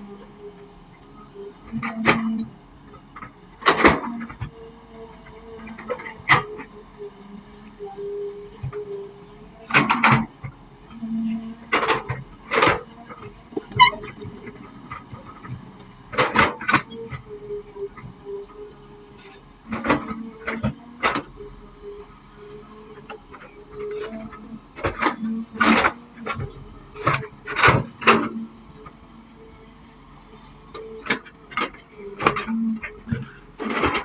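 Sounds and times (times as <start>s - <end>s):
excavator engine and hydraulic hum: 0.0s - 34.0s.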